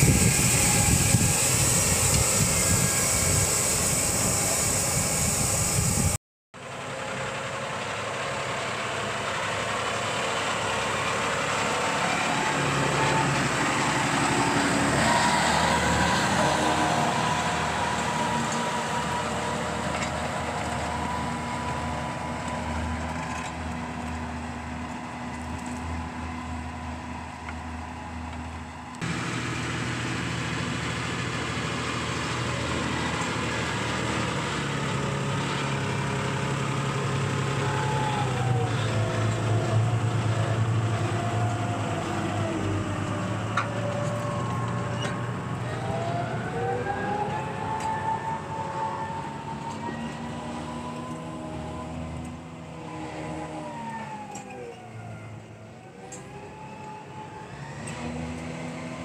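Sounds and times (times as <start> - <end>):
tractor engine running: 0.0 - 57.2.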